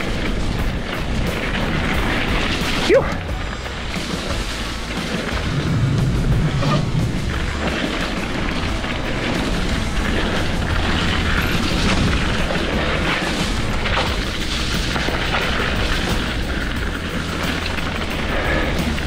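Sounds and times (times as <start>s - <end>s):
bike knocking and rattling: 0.0s - 19.0s
tyre and trail noise: 0.0s - 19.0s
wind buffeting microphone: 0.0s - 19.0s.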